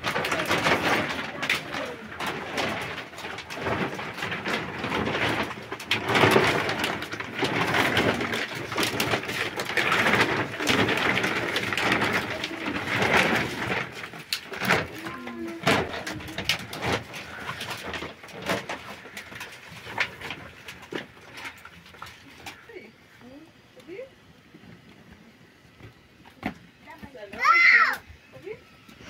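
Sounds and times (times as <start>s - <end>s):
plastic sheet crackling and flapping: 0.0s - 29.0s.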